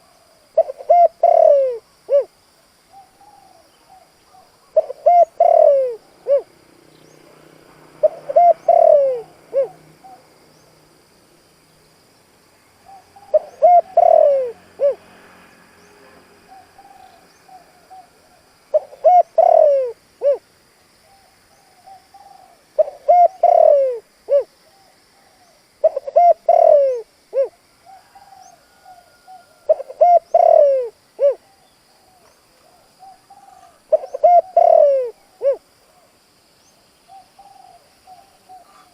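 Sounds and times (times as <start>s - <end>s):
dove cooing: 0.0s - 7.4s, 8.0s - 10.4s, 12.8s - 15.2s, 16.4s - 36.2s, 37.1s - 38.9s.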